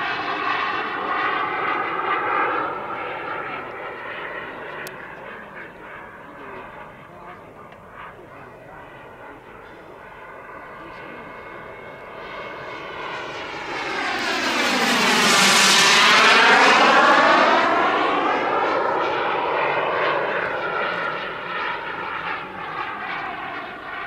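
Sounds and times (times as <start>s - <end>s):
model jet turbine passing by: 0.0s - 24.0s.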